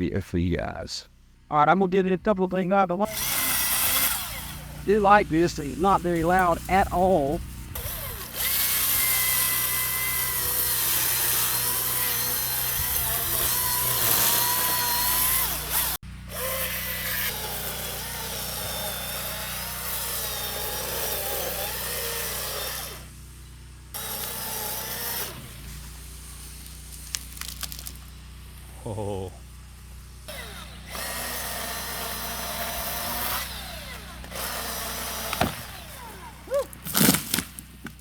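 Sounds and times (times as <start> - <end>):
electric chainsaw cutting wood: 3.0 - 38.0.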